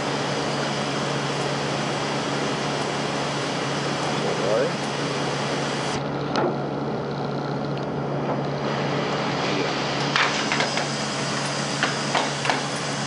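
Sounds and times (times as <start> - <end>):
printing press humming: 0.0 - 13.0.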